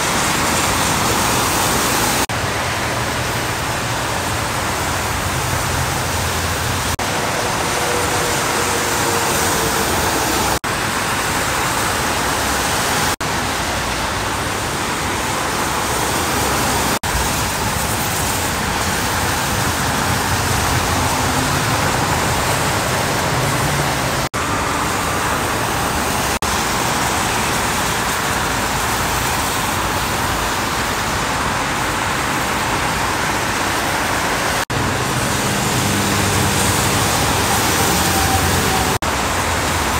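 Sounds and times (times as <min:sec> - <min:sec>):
traffic on wet road: 0:00.0 - 0:39.9.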